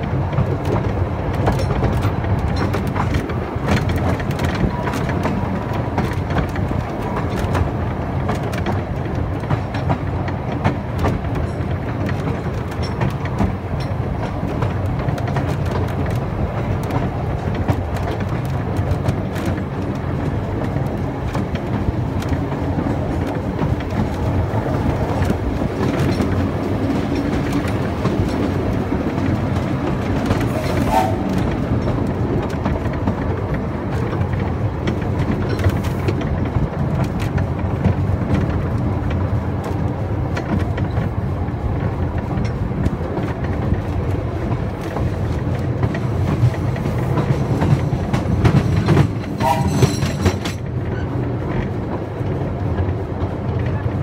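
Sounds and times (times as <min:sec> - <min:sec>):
train rumbling along track: 0:00.0 - 0:54.0
wheels clicking and rattling: 0:00.0 - 0:54.0.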